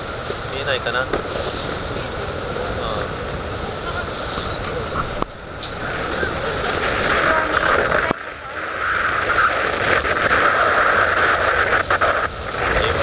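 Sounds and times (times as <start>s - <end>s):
boat engine: 0.0s - 13.0s
water running past hull: 0.0s - 13.0s
wind on microphone: 0.0s - 13.0s.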